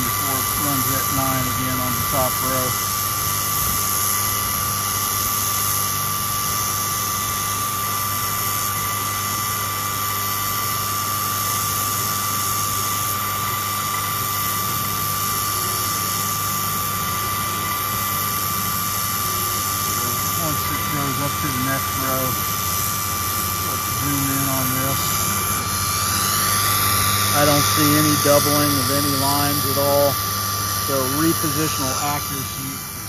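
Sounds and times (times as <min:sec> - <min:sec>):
laser engraver fans whirring: 0:00.0 - 0:33.0
thin high whine: 0:00.0 - 0:33.0.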